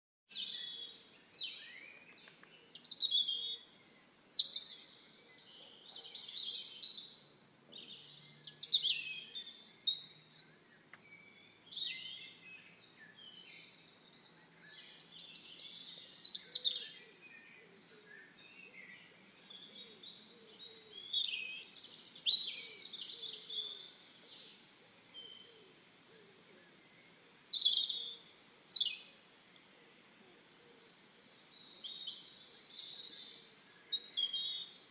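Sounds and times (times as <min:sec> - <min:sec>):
songbirds singing: 0:00.3 - 0:34.9.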